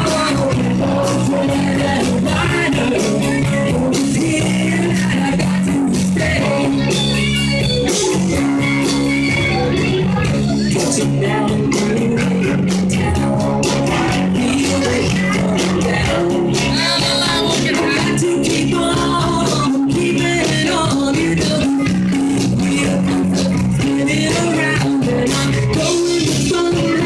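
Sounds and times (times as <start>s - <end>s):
bass guitar: 0.0s - 27.0s
drum kit striking steadily: 0.0s - 27.0s
electric guitar: 0.0s - 27.0s.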